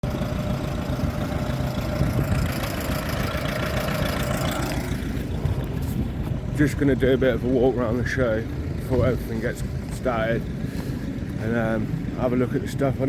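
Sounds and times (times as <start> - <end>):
engine idling rumble: 0.0 - 13.0.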